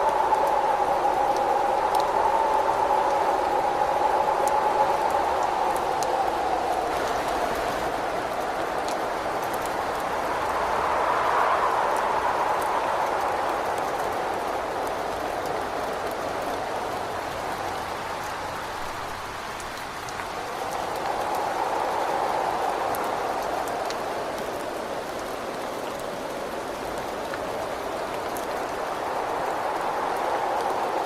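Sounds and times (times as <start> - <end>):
rain drop ticks: 0.0 - 31.0
steady rain: 0.0 - 31.0
wind against a window: 0.0 - 31.0.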